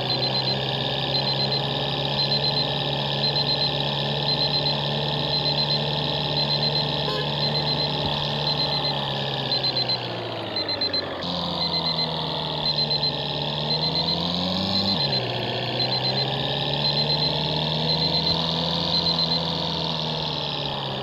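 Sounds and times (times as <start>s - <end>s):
short high electronic beeps: 0.0s - 20.1s
vehicle motor running: 0.0s - 21.0s.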